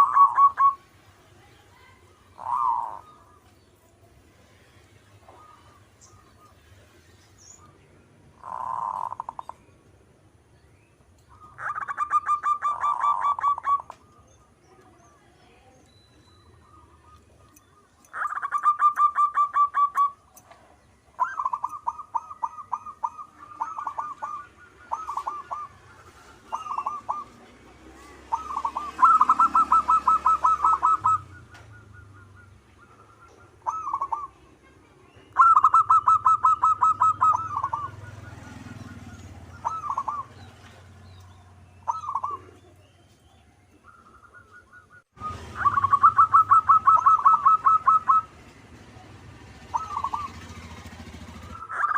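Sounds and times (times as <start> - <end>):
doves cooing: 0.0 - 1.2, 1.8 - 9.6, 11.2 - 14.6, 16.5 - 34.6, 35.2 - 51.9.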